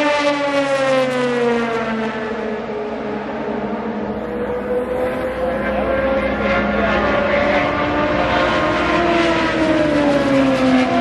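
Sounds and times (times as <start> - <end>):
race car engines passing: 0.0 - 11.0.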